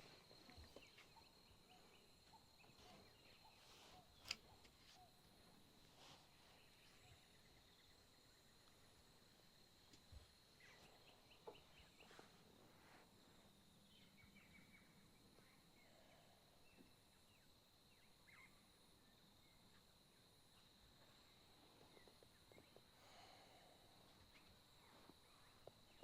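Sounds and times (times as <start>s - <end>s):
faint background hiss: 0.0s - 26.0s
faint chirps: 0.0s - 26.0s.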